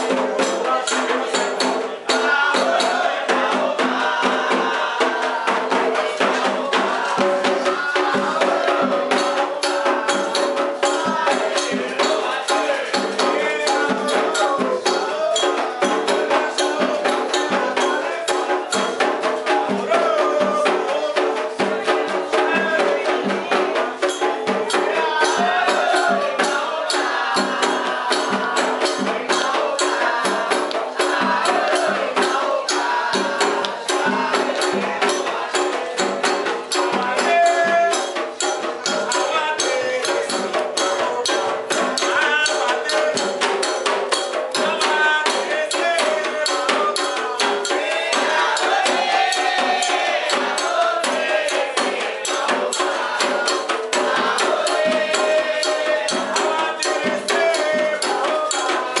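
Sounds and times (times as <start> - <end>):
drums playing: 0.0 - 59.0
voices singing: 0.0 - 59.0.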